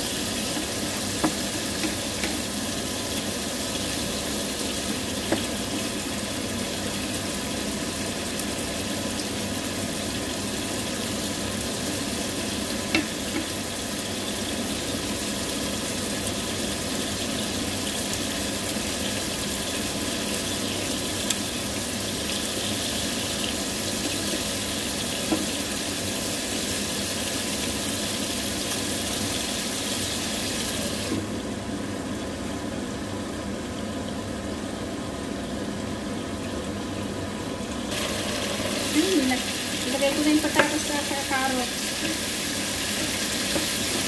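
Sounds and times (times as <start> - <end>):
chicken sizzling in frying pan: 0.0 - 44.0.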